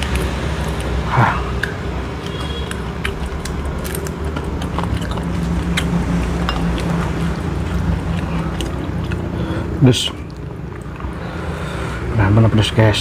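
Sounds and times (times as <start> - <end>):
mouth clicks and smacks: 0.0 - 11.2
person chewing food: 0.0 - 12.2
steady low hum: 0.0 - 13.0.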